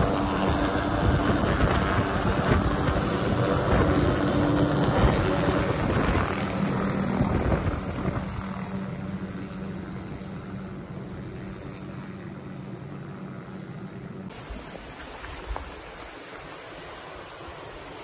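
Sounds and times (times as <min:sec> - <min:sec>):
helicopter rotor chop: 0:00.0 - 0:18.0
helicopter turbine noise: 0:00.0 - 0:18.0.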